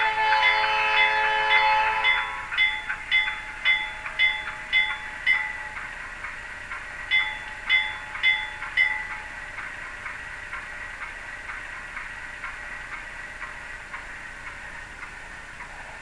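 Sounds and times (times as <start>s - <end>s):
digital locomotive bell dings: 0.0s - 13.8s.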